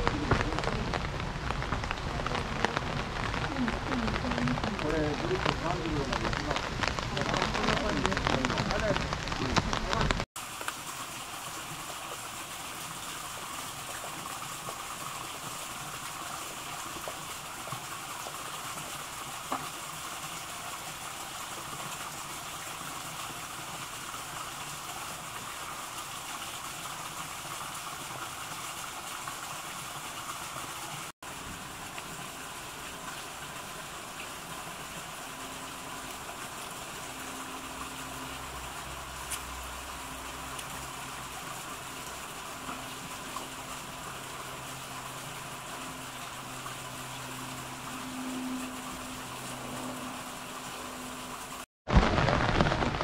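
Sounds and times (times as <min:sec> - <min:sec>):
falling water rushing: 0:00.0 - 0:53.0.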